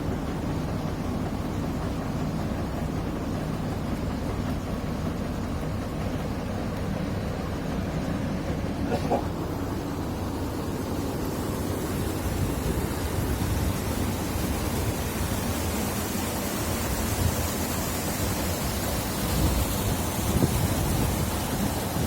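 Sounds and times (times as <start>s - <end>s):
drilling rig rumbling: 0.0s - 22.0s.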